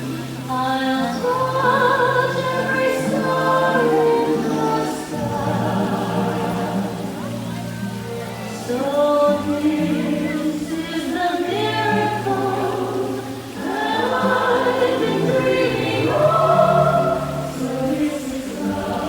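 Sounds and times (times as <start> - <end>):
choir singing held chords: 0.0 - 19.0.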